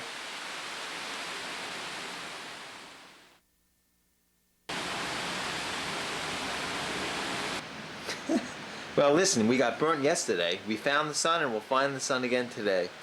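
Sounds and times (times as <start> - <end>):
torrential rain: 0.0 - 3.4, 4.7 - 13.0.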